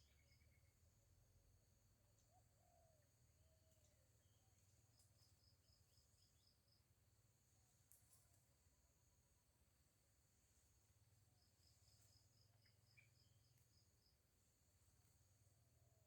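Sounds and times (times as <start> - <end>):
faint birdsong: 0.0 - 16.0
high insect hum: 0.0 - 16.0.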